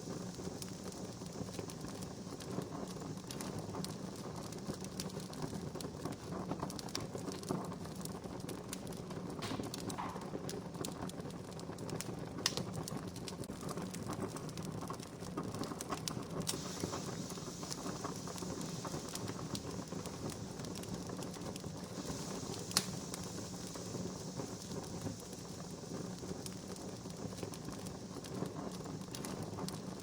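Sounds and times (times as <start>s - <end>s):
wood campfire crackling: 0.0s - 30.0s.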